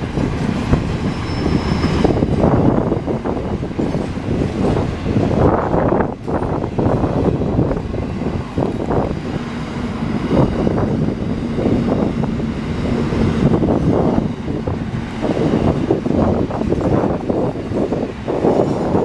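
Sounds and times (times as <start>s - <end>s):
train wheels rumbling on rails: 0.0s - 19.0s
wind on microphone: 0.0s - 19.0s.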